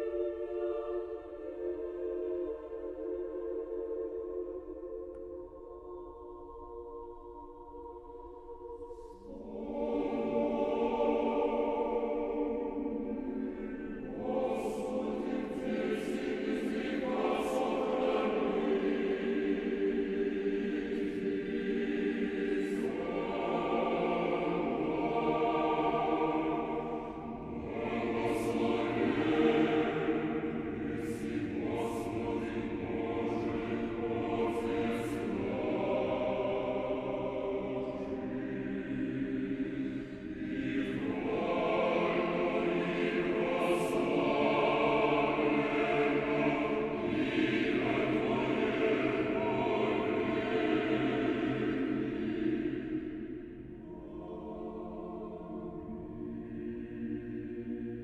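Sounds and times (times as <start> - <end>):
choir singing a cappella chant: 0.0 - 58.0.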